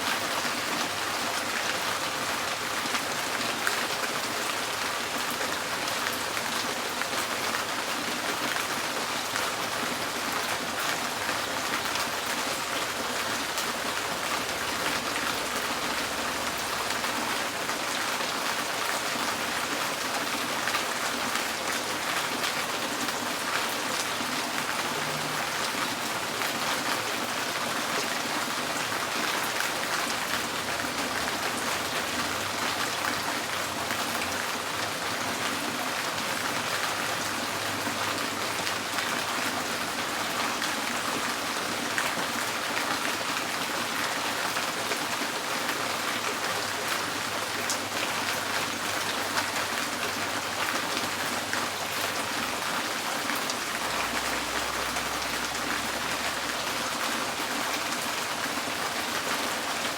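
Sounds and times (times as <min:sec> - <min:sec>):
rain drumming on a tin roof: 0:00.0 - 0:59.9.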